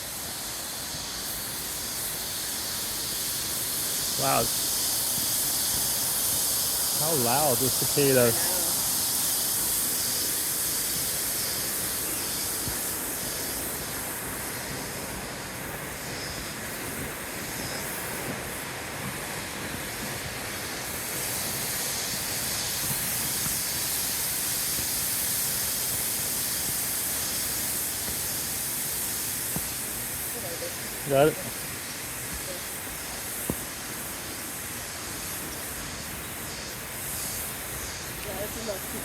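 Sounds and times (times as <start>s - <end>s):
cicada chorus buzzing: 0.0s - 39.0s.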